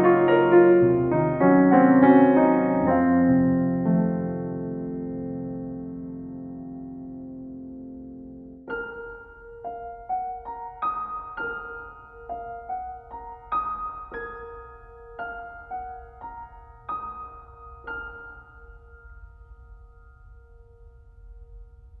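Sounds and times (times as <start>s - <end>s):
gentle keyboard melody: 0.0s - 22.0s.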